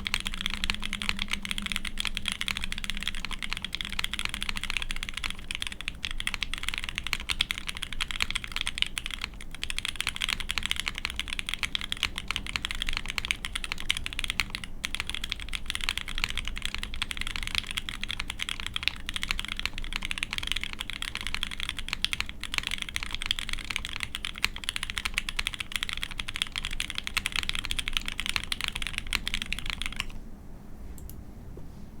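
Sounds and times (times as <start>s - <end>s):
fast mechanical keyboard typing: 0.0s - 30.2s.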